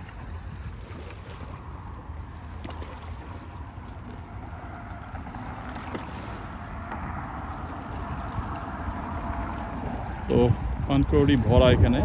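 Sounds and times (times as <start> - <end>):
choppy water: 0.0 - 12.0
wind buffeting microphone: 0.0 - 12.0.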